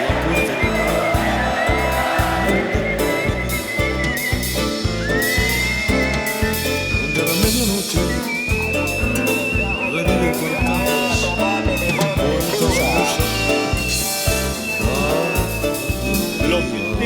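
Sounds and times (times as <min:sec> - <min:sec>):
high sliding melody line: 0:00.0 - 0:17.0
music with steady drum beat: 0:00.0 - 0:17.0.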